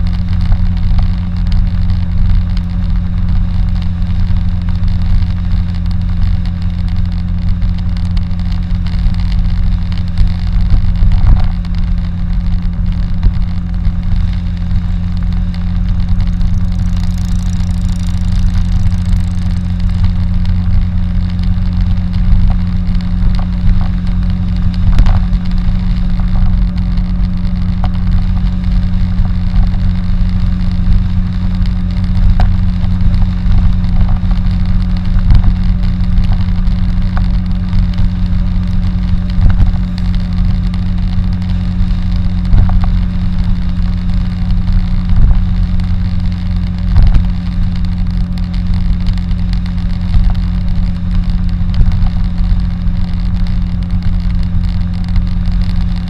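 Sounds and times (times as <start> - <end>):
car engine and tyre drone: 0.0 - 56.0.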